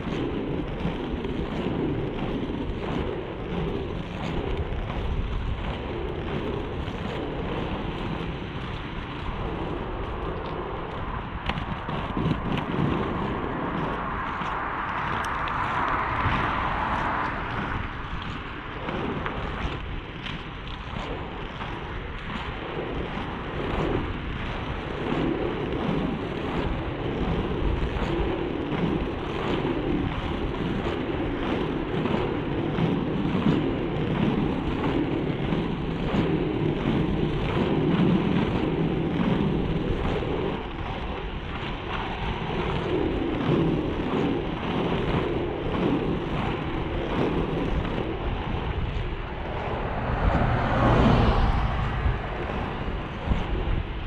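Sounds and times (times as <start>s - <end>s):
skate wheels rumbling on asphalt: 0.0s - 54.0s
wind buffeting microphone: 0.0s - 54.0s.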